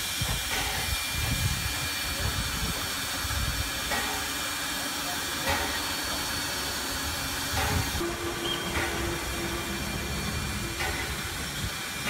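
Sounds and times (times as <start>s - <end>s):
steam hissing: 0.0s - 12.0s
steam locomotive soft beat: 0.0s - 12.0s.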